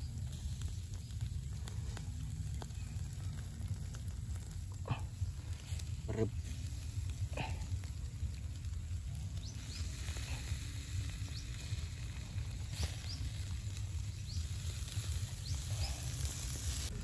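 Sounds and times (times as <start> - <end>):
low rumble: 0.0 - 17.0
meat sizzling on grill: 0.0 - 17.0
sharp crackles and pops: 0.0 - 17.0.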